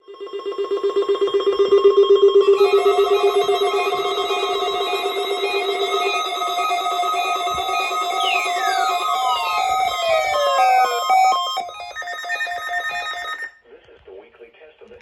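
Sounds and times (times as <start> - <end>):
rapidly pulsing electronic tone: 0.0 - 13.5.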